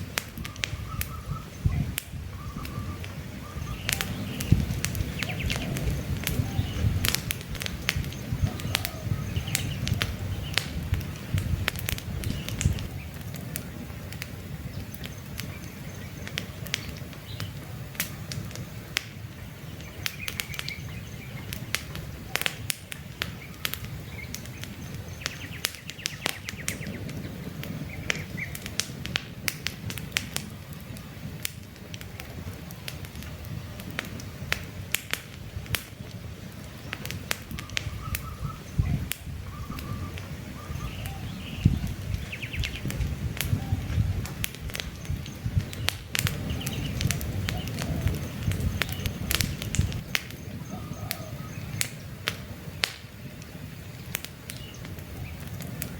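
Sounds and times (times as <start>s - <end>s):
birds chirping: 0.0s - 28.9s, 35.5s - 55.9s
campfire crackling and popping: 0.0s - 55.9s.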